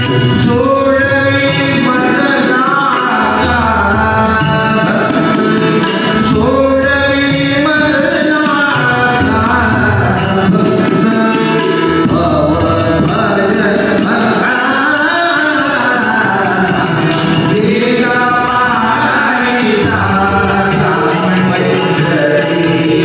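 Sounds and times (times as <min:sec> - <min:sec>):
instrumental accompaniment: 0:00.0 - 0:23.0
man singing into microphone: 0:00.0 - 0:23.0.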